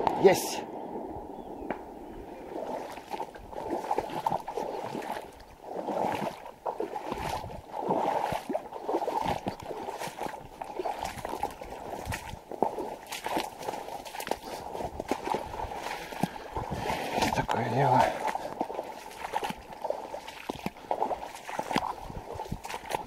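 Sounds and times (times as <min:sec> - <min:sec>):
water sloshing: 0:02.1 - 0:23.0
wet vegetation swishing: 0:02.4 - 0:23.0.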